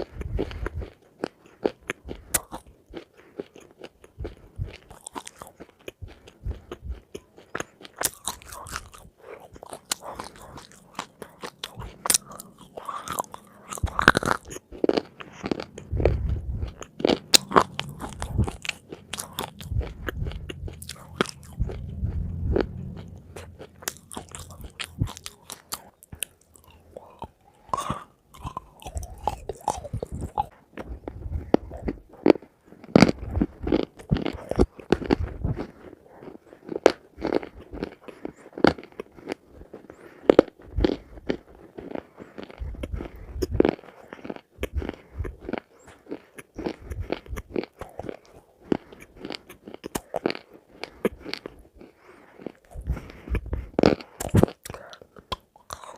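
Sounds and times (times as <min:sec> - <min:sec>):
crunchy food bites and chewing: 0:00.0 - 0:55.9
muffled low chewing thumps: 0:00.0 - 0:55.9.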